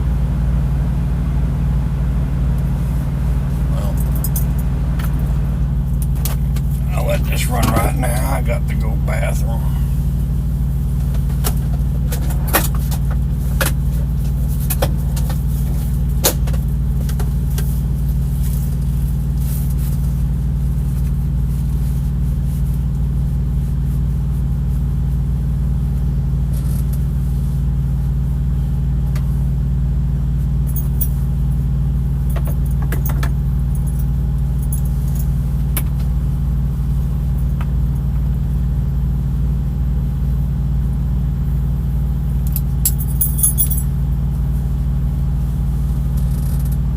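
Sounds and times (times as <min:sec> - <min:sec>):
diesel truck engine idling: 0:00.0 - 0:46.9.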